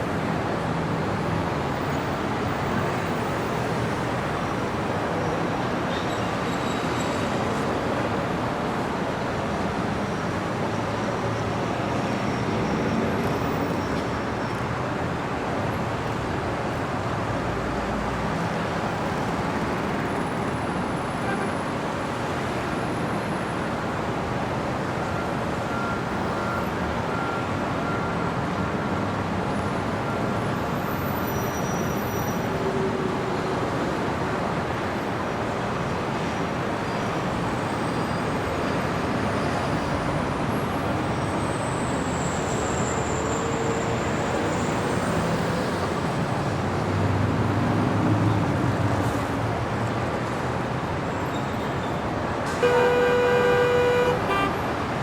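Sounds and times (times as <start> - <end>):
passing cars: 0.0 - 55.0.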